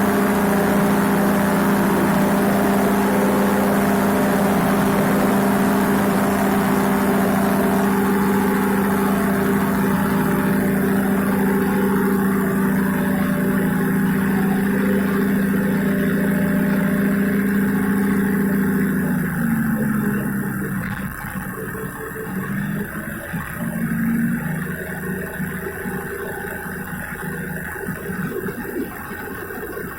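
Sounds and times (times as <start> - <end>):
paramotor engine and propeller: 0.0 - 29.9.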